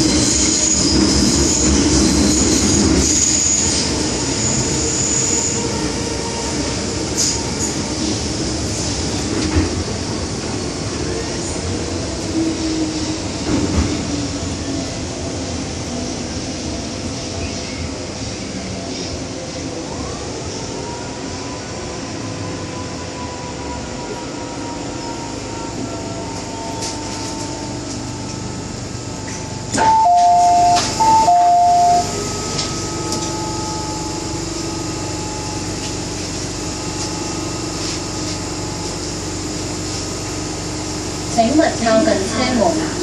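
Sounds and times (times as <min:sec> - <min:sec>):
metro train rumble: 0:00.0 - 0:43.0.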